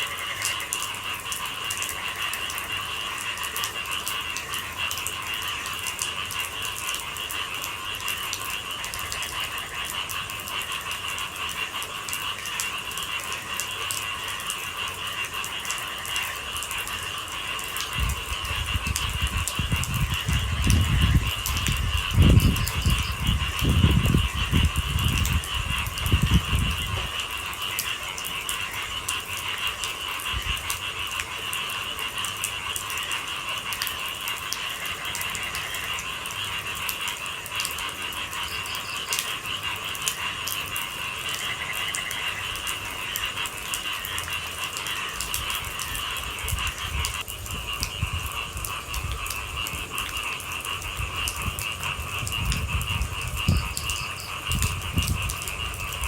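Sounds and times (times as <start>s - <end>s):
frogs and insects chorus: 0.0s - 56.0s
raindrops tapping on hard surface: 0.0s - 56.0s.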